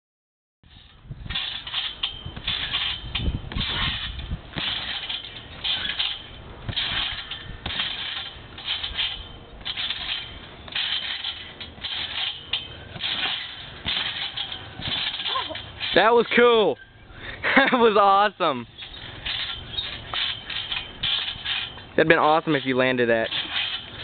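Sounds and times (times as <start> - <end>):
trampoline springs creaking: 0.6 - 24.0.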